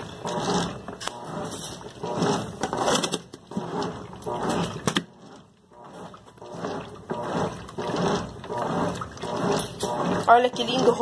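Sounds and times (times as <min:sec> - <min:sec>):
washing machine water swishing: 0:00.0 - 0:11.0.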